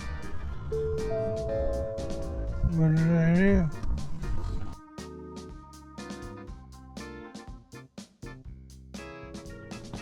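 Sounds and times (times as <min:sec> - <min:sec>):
jazzy keyboard and bass music: 0:00.0 - 0:10.0.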